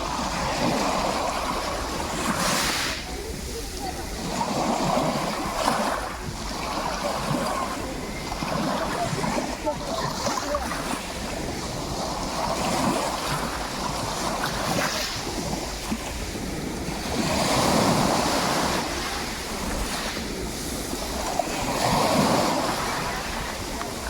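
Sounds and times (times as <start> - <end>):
sea surf washing: 0.0 - 24.0
wind rumble on microphone: 0.0 - 24.0.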